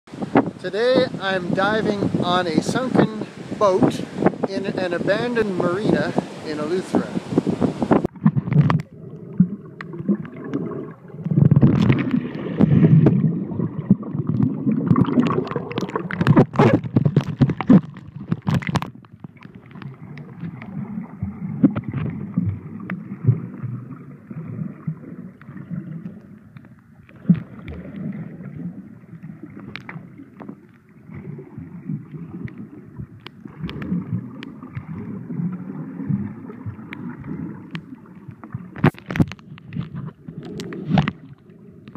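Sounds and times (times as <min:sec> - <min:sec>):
muffled underwater water sloshing: 0:00.1 - 0:41.9.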